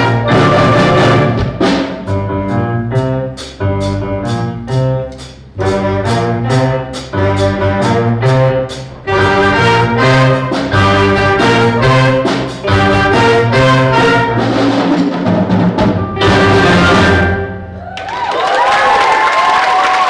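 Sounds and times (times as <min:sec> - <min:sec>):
concert band playing: 0:00.0 - 0:18.0.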